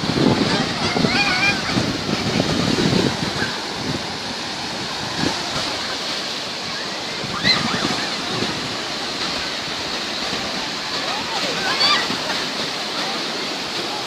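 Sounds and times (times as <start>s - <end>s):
surf washing onto beach: 0.0s - 14.0s
wind: 0.0s - 14.0s.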